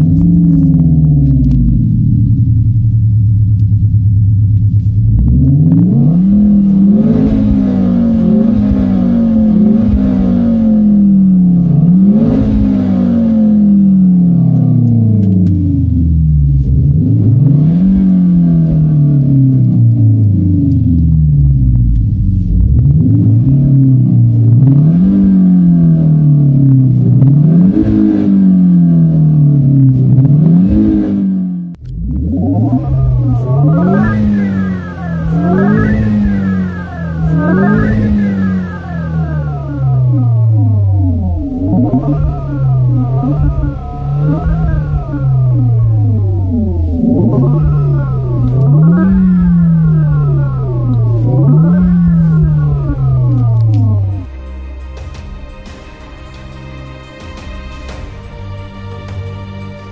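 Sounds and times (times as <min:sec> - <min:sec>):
synthesized car engine accelerating: 0:00.0 - 0:59.9.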